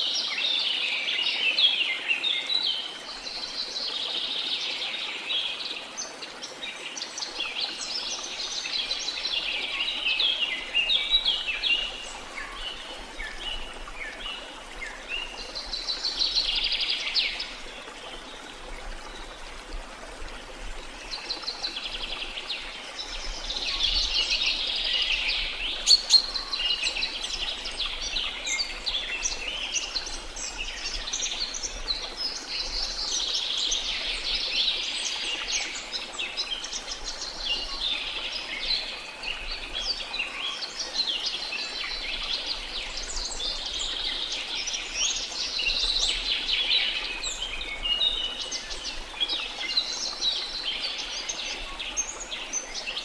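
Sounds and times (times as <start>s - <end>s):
faint running water: 0.0s - 53.0s.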